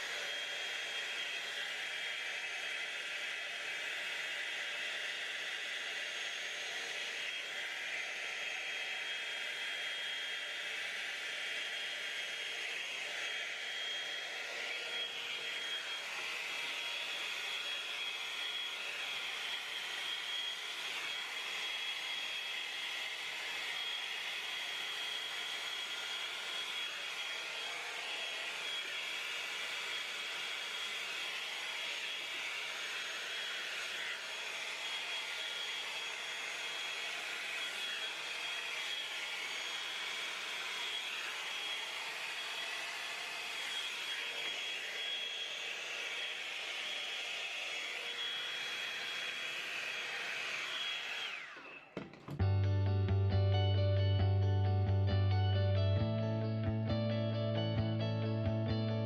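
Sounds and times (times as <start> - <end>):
blow dryer running: 0.0 - 52.7.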